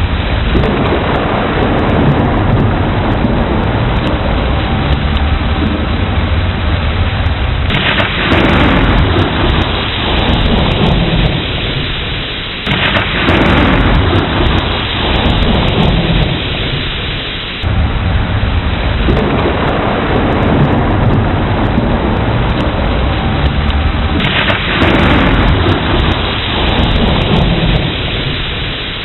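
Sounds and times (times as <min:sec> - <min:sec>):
heavy rain falling: 0:00.0 - 0:29.0
thunder rumbling: 0:00.0 - 0:29.0.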